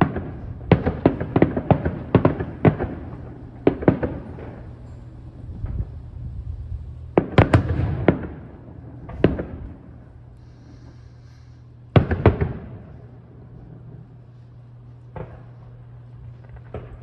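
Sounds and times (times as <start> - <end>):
firework shells bursting: 0.0 - 6.1, 7.0 - 17.0.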